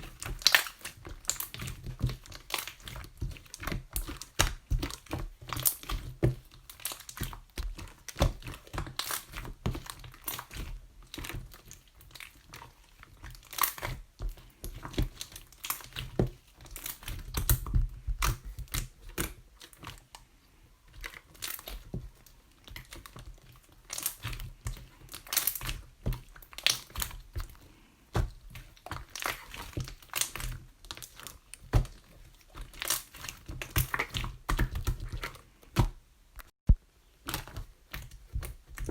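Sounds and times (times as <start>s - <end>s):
slime squishing with sticky clicks: 0.0s - 38.9s.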